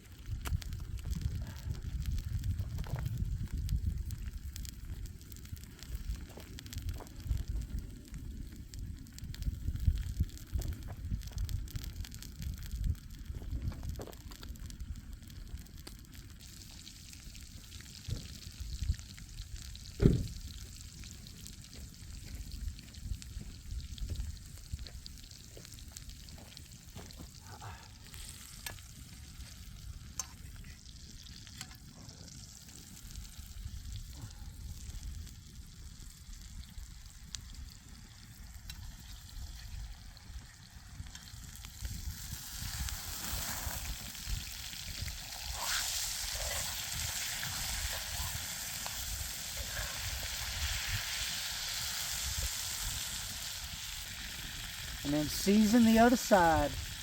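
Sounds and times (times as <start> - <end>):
chicken sizzling in a pan: 0.0 - 57.0.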